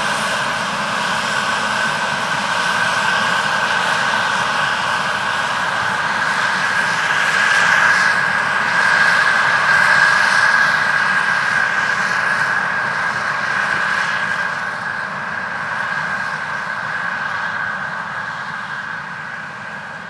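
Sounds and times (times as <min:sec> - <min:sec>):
combine harvester running: 0:00.0 - 0:20.0
steady high machine whine: 0:00.0 - 0:20.0.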